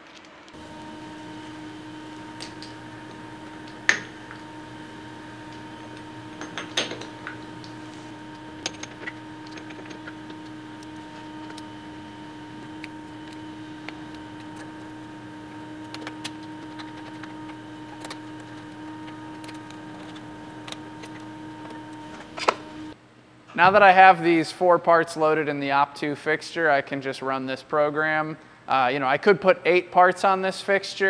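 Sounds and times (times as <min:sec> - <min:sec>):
steady hum: 0:00.3 - 0:25.3.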